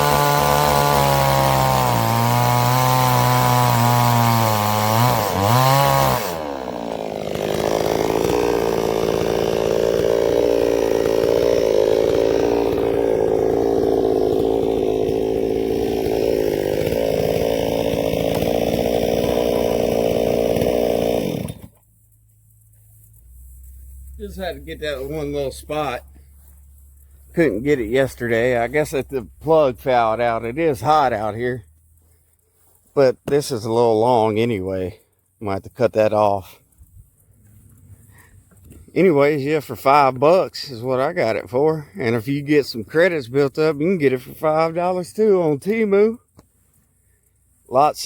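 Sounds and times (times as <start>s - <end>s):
chainsaw sawing through log: 0.0s - 21.9s, 22.7s - 48.0s.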